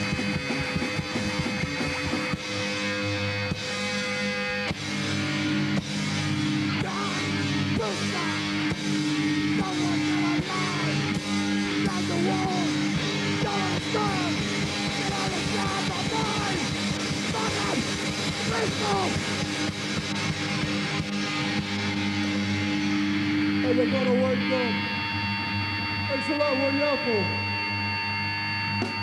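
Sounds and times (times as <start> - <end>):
punk rock band playing: 0.0 - 29.0
sliding guitar notes: 0.0 - 29.0.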